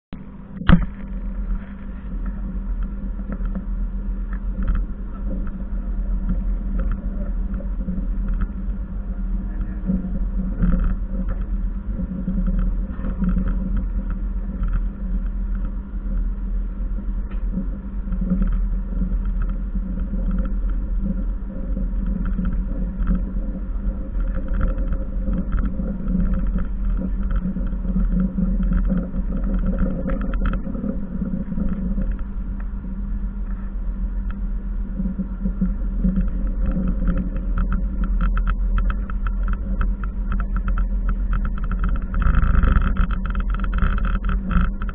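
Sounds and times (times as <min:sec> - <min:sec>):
faint clicks and rattles: 0:00.2 - 0:44.9.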